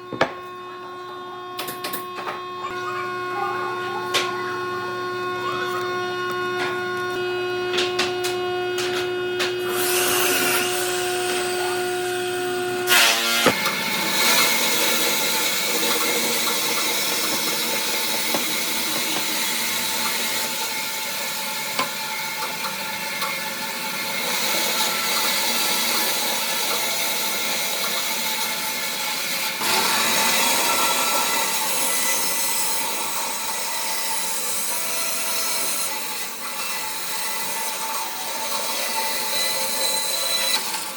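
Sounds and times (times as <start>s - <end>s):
power tool grinding wood: 0.0s - 40.9s.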